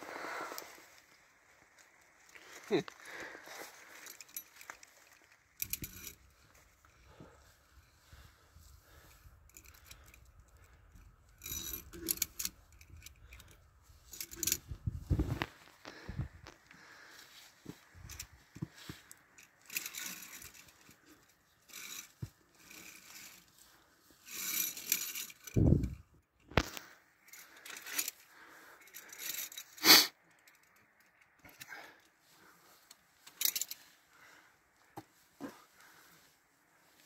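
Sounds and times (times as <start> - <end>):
carabiners clinking on steel cable: 1.8 - 36.2.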